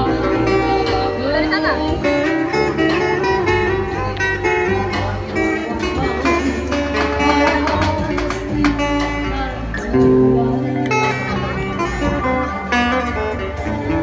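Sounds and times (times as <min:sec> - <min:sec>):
plucked acoustic guitar music: 0:00.0 - 0:14.0.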